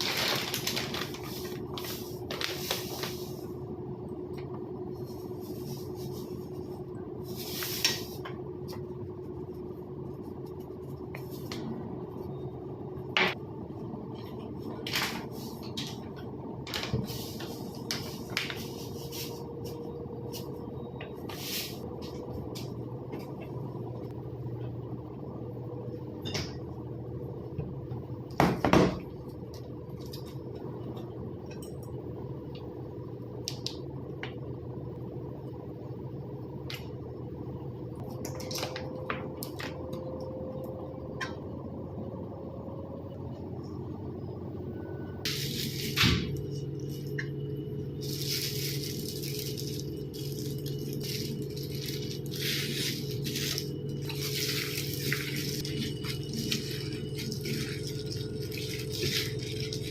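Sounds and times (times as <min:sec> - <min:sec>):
low kitchen hum: 0:00.0 - 0:59.9.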